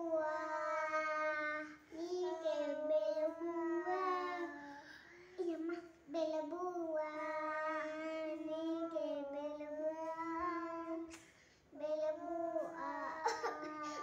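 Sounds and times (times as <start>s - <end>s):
young child singing held notes: 0.0s - 14.0s.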